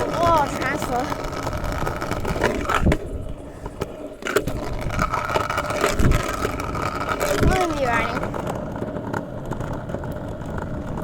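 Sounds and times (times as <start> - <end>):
hard wheels rolling on wet pavement: 0.0 - 11.0.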